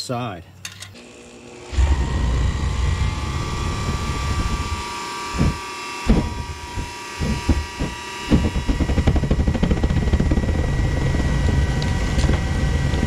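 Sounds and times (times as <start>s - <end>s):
burner rumble with whine: 1.7s - 13.0s
low thumps: 1.8s - 13.0s.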